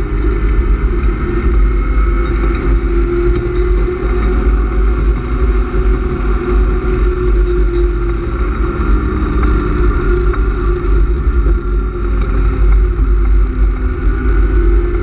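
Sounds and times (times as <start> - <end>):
car engine running under load: 0.0 - 15.0
heavy low rumble: 0.0 - 15.0.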